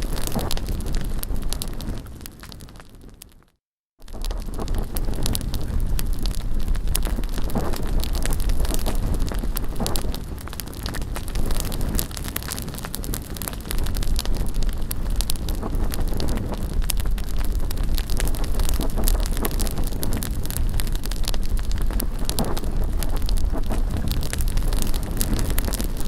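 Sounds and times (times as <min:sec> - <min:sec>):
wind rumbling on microphone: 0:00.0 - 0:03.4, 0:04.0 - 0:26.0
bonfire crackling: 0:00.0 - 0:26.0.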